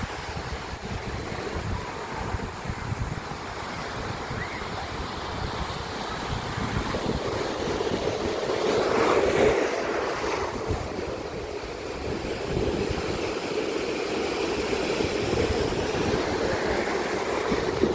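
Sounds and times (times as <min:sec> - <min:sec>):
ocean surf washing ashore: 0:00.0 - 0:17.9
wind buffeting microphone: 0:00.0 - 0:17.9.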